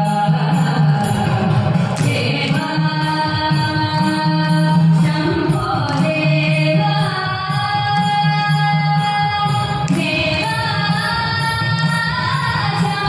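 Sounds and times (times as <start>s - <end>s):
sung melody with accompaniment: 0.0s - 13.0s.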